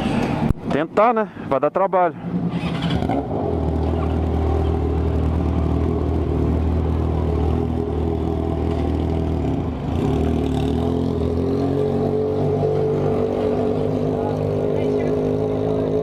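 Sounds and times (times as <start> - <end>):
motorcycle engine running: 2.2 - 16.0.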